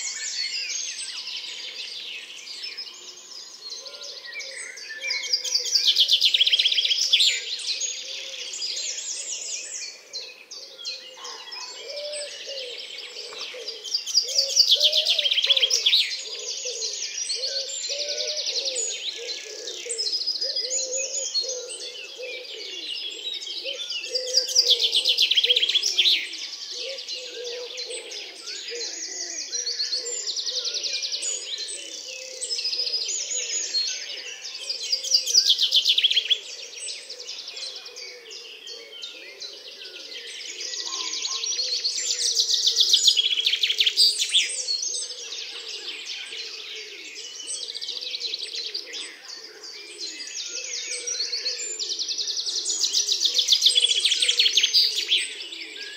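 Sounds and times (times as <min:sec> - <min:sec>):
woodland birds singing: 0:00.0 - 0:55.9.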